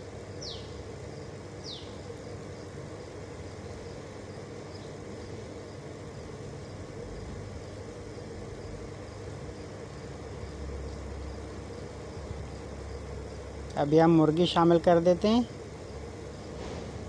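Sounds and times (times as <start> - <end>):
stove burner rumbling and hissing: 0.0 - 17.0.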